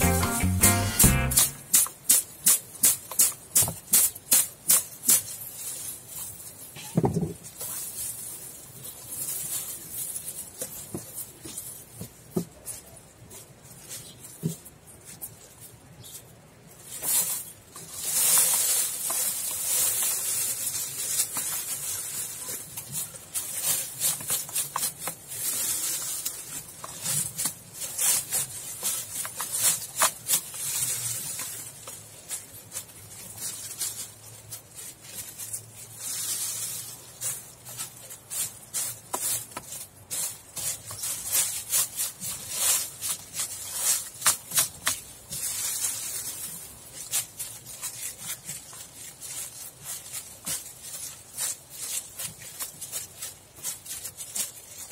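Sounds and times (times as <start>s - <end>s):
dry stalks crackling and rustling: 0.0s - 54.9s
seeds pattering into plastic basin: 0.0s - 54.9s.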